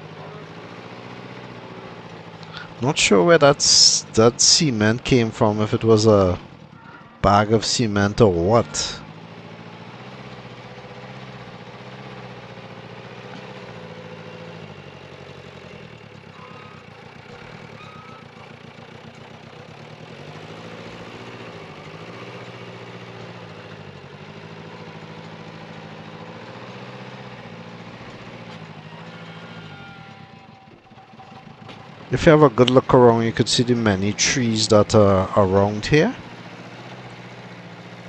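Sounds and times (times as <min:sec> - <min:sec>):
excavator diesel engine: 0:00.0 - 0:38.0.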